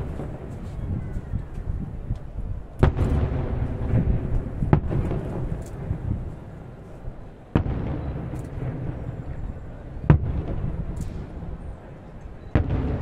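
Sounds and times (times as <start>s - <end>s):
firework bangs: 0.0s - 1.0s, 2.7s - 11.8s, 12.5s - 13.0s
low booming of fireworks: 0.0s - 13.0s.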